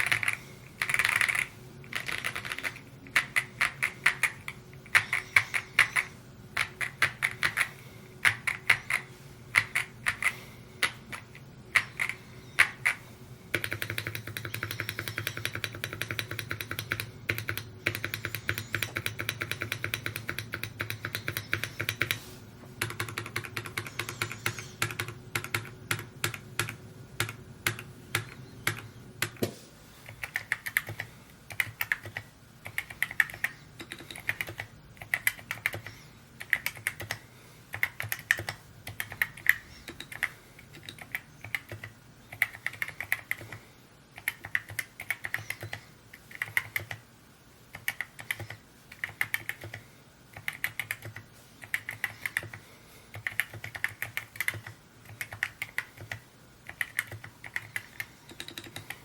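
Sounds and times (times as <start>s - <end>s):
mechanical keyboard typing: 0.0s - 22.2s, 22.8s - 29.4s, 30.1s - 43.6s, 44.2s - 47.0s, 47.7s - 59.0s.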